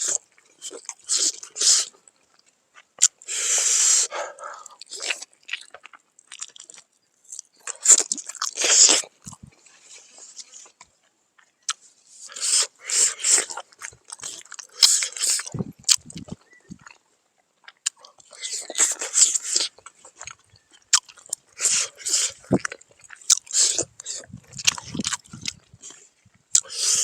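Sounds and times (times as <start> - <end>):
person chewing: 0.0 - 27.0.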